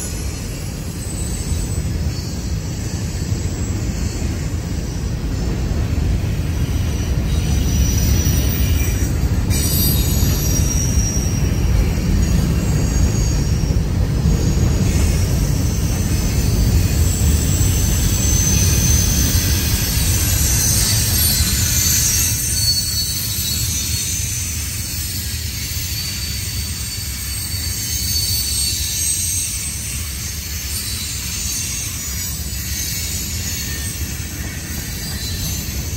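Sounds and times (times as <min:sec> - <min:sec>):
train wheels rumbling on rail: 0:00.0 - 0:35.9
high-pitched wheel squeal: 0:06.7 - 0:35.9.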